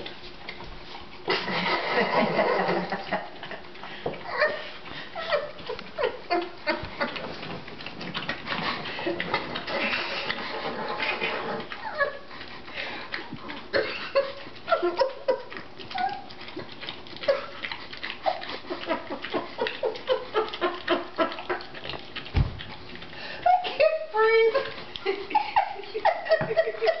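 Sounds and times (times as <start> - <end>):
dog licking and slurping: 0.0 - 27.0.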